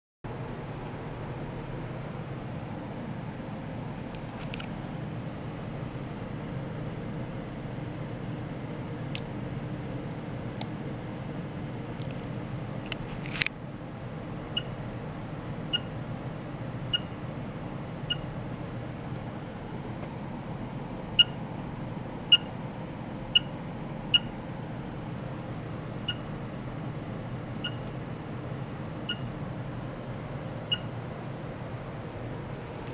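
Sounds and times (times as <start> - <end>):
low hum of lab equipment: 0.3 - 32.9.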